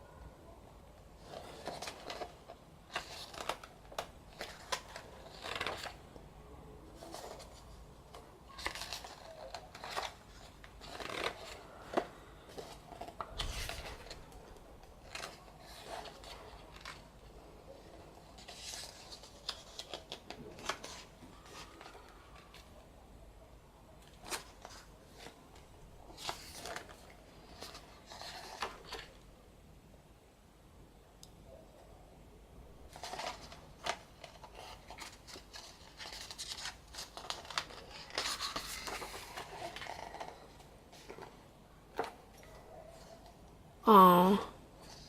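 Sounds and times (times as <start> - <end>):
book pages being turned: 1.1 - 6.3, 6.9 - 22.8, 24.0 - 29.2, 32.9 - 43.4.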